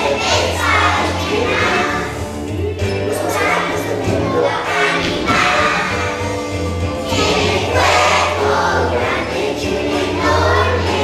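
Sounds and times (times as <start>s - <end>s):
children's choir singing: 0.0s - 11.0s
musical accompaniment: 0.0s - 11.0s.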